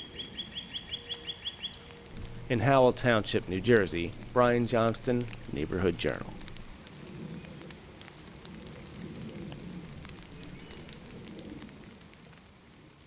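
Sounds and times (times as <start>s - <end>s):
raindrops ticking: 0.0s - 13.0s.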